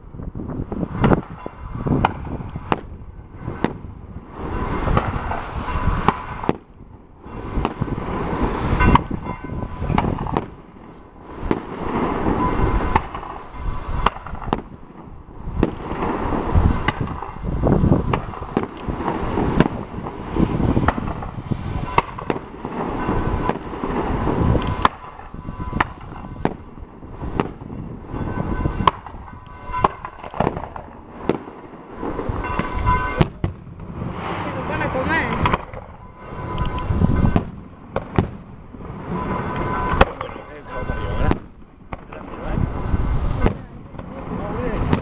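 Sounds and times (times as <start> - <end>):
fireworks bangs and crackling: 0.0 - 45.0.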